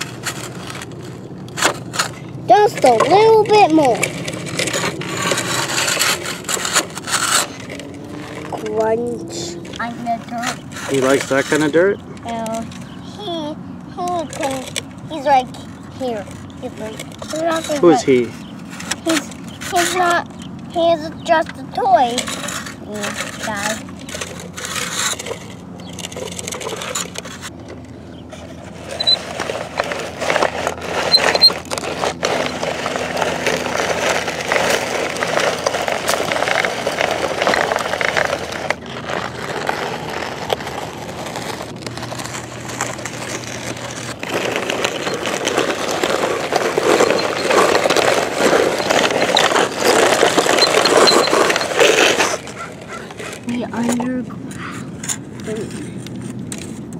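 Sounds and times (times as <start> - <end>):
toy bulldozer scraping sand: 0.0 - 27.6, 28.2 - 54.2.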